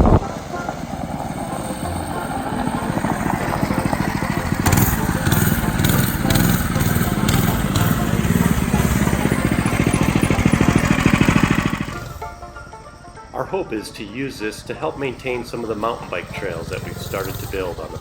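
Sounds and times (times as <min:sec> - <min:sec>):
mini bike engine running: 0:00.0 - 0:12.6, 0:14.8 - 0:18.0.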